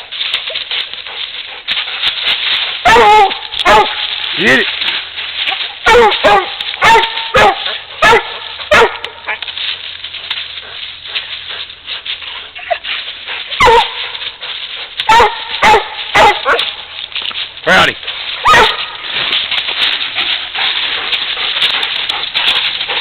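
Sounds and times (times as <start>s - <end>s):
dogs barking: 0.0s - 17.0s, 18.0s - 23.0s.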